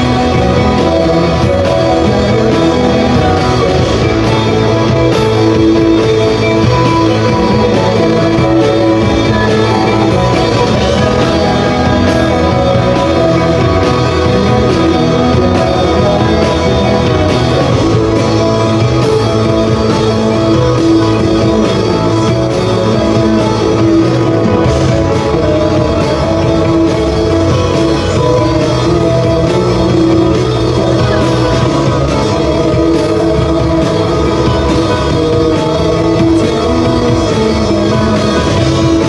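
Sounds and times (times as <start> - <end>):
electric guitar: 0.0 - 39.0
rock band playing live: 0.0 - 39.0.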